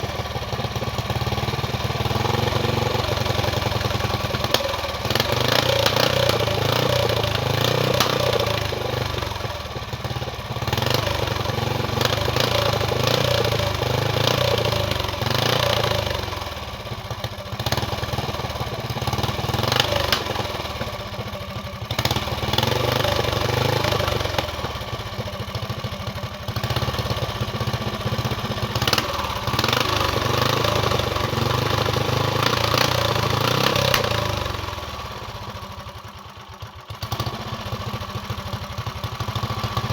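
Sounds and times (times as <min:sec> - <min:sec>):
engine revving: 0:00.0 - 0:09.8, 0:10.5 - 0:16.9, 0:17.6 - 0:21.2, 0:21.8 - 0:25.6, 0:26.6 - 0:36.0, 0:37.0 - 0:39.9.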